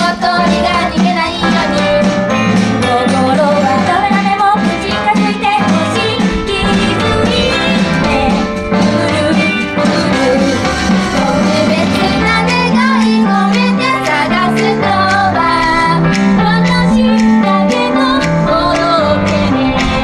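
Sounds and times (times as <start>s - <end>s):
pop backing track with beat: 0.0s - 20.0s
women singing pop song: 0.0s - 20.0s.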